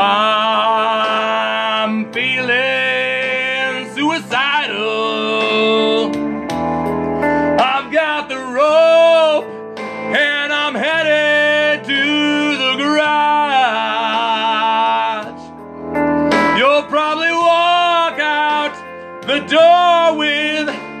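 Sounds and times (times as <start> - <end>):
man singing rock-blues: 0.0 - 6.4, 7.2 - 15.6, 16.3 - 21.0
guitar backing: 0.0 - 21.0.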